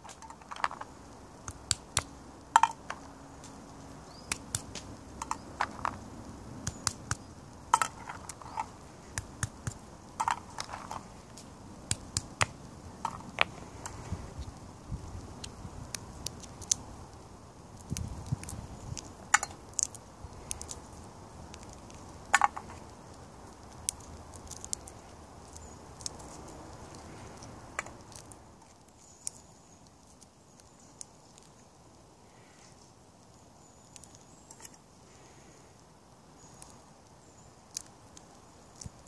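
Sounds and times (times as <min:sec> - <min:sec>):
acorn shells cracking: 0:00.0 - 0:32.6, 0:33.2 - 0:39.0.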